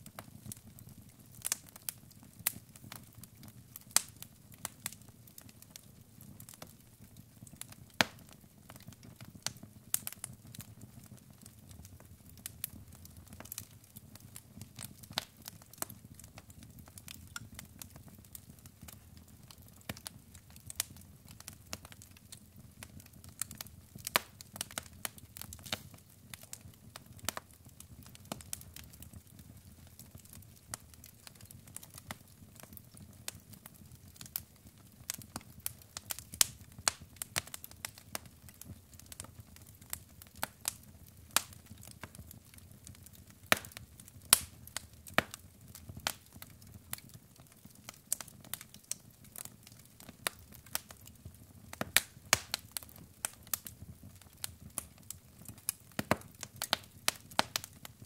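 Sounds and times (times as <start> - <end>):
fire pops and snaps: 0.0 - 58.0.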